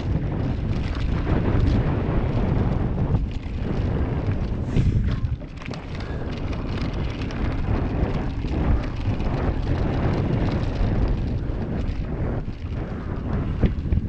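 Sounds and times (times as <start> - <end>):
bike knocks and rattles: 0.0 - 14.0
tyres rumbling over dirt: 0.0 - 14.0
wind buffeting microphone: 0.0 - 14.0.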